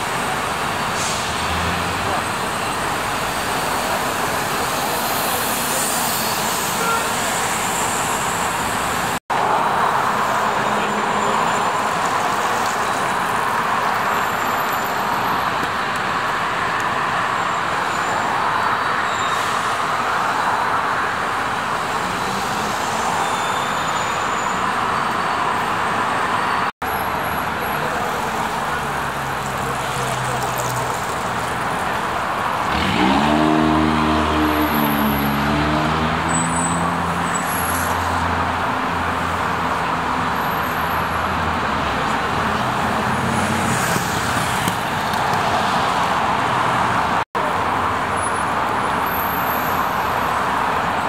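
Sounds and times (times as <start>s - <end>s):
city road traffic: 0.0s - 51.0s.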